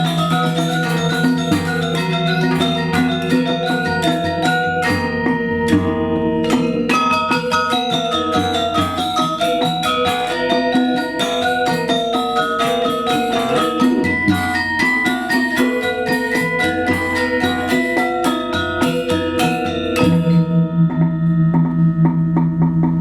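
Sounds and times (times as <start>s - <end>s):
gamelan metallophones playing: 0.0s - 23.0s.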